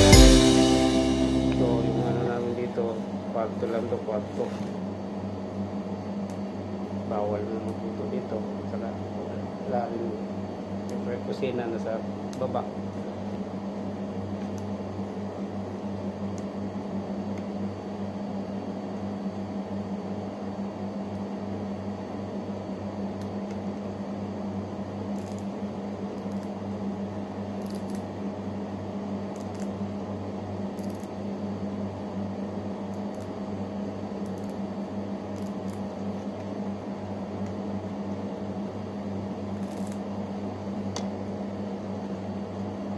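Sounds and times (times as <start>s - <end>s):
appliance humming: 0.0s - 42.9s.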